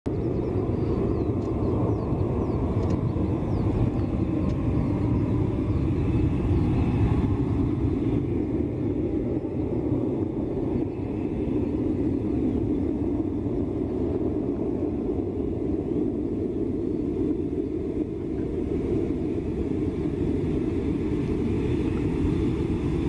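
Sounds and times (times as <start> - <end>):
jet engines rumbling: 0.1 - 23.0.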